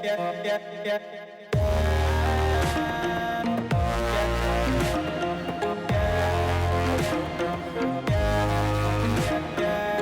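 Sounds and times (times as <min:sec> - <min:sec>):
electronic music with heavy bass: 0:01.6 - 0:10.0.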